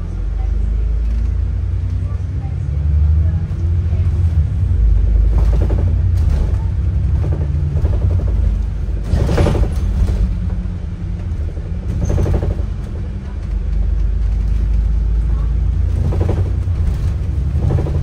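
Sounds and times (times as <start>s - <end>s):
bus engine and road rumble: 0.0s - 18.0s
creaks and rattles of bus fittings: 0.6s - 2.4s, 3.4s - 18.0s.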